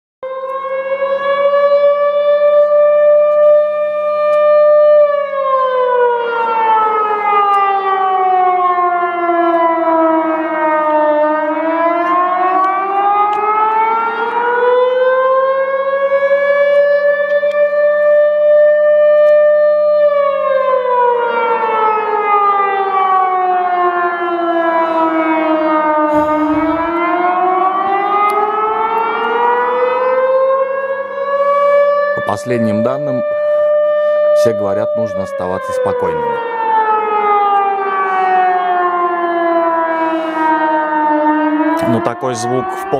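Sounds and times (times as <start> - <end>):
warning siren wailing: 0.2 - 42.9.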